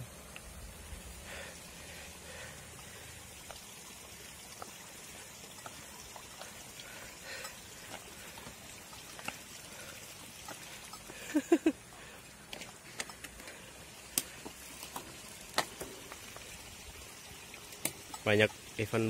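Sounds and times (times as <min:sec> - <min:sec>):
bicycle rolling on rough road: 0:00.0 - 0:17.0.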